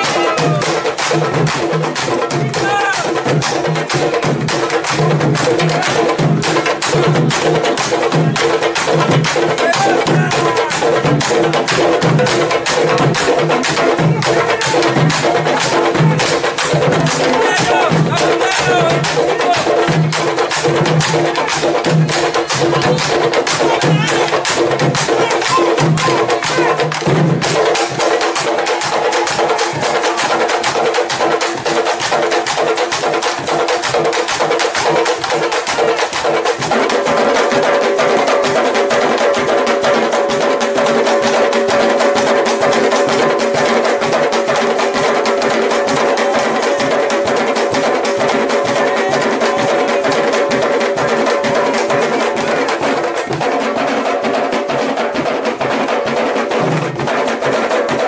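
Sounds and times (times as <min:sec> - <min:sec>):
drum line playing: 0:00.0 - 0:58.0.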